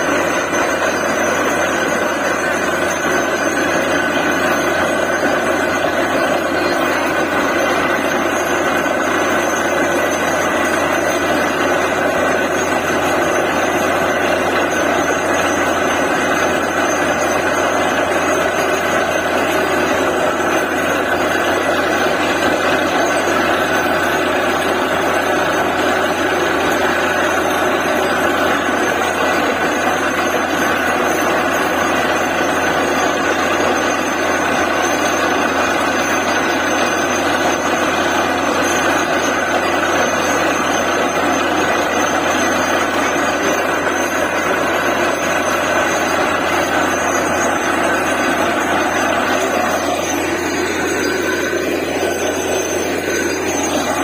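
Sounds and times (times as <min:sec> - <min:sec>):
drilling rig running: 0:00.0 - 0:54.0.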